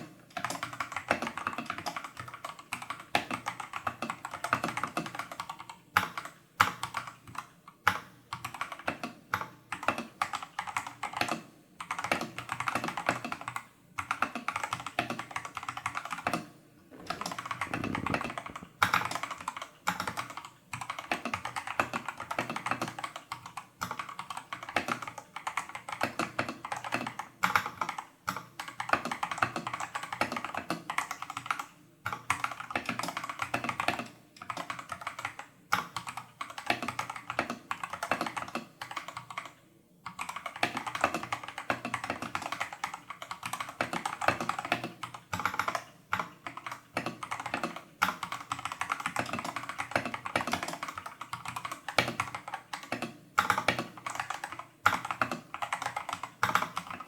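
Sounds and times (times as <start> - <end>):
fast mechanical keyboard typing: 0.0 - 57.0.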